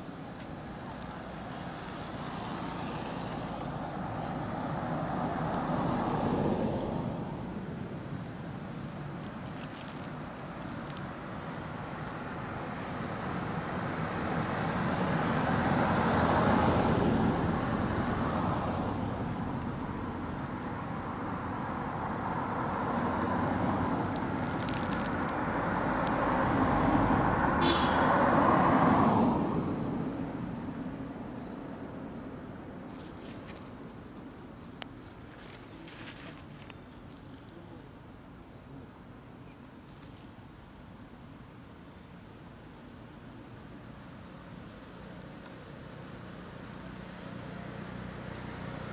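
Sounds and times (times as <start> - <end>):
road vehicles passing: 0.0 - 48.9.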